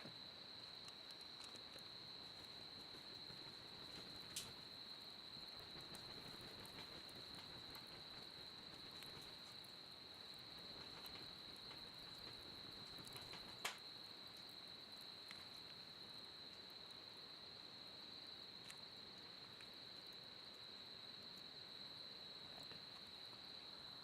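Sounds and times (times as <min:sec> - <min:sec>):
wood fire crackling: 0:00.0 - 0:21.6
cricket trilling: 0:00.0 - 0:24.0.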